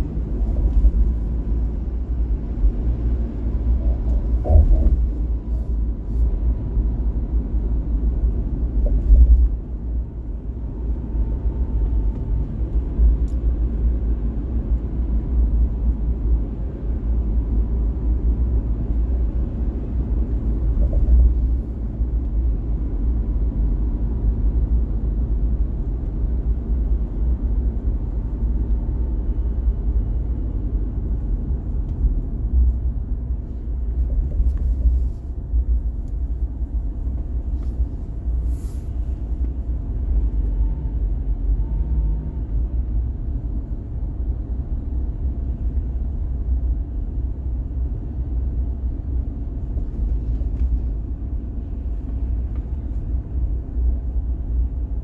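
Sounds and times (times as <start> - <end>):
car driving at speed: 0.0 - 55.0.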